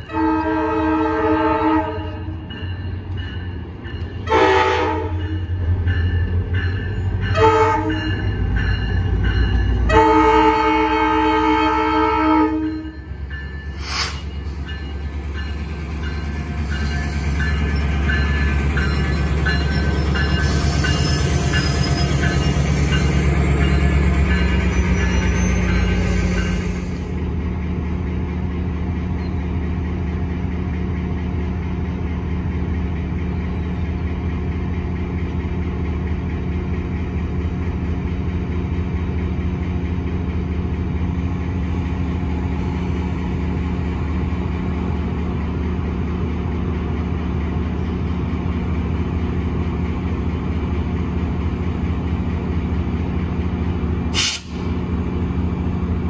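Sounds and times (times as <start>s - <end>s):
locomotive engine droning: 0.0s - 56.0s.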